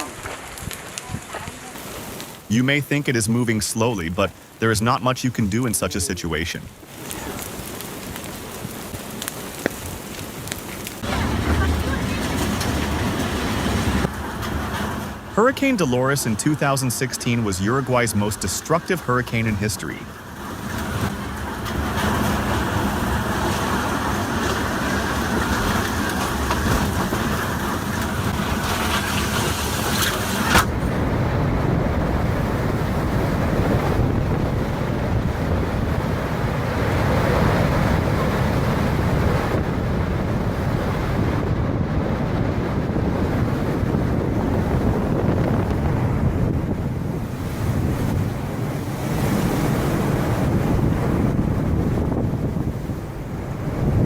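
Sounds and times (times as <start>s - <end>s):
wind blowing across microphone: 0.0s - 3.2s, 5.4s - 54.0s
waves and surf: 0.0s - 9.7s, 10.4s - 54.0s.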